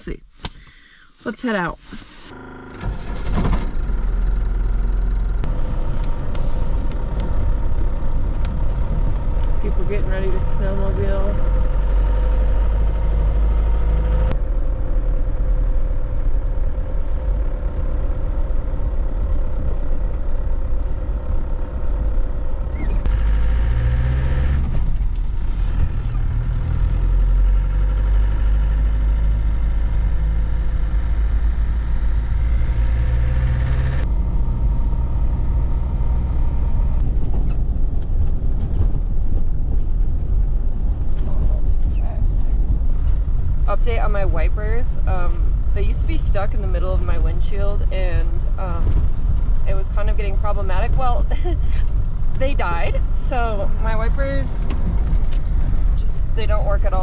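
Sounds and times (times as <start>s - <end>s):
low engine rumble: 0.0s - 57.0s
engine whine: 2.0s - 57.0s.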